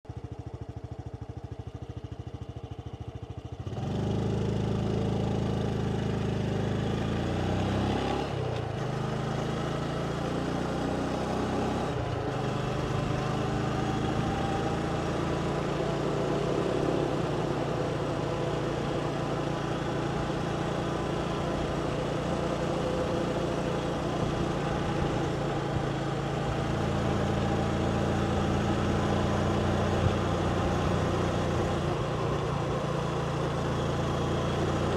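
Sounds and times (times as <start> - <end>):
motorbike engine: 0.1 - 34.9.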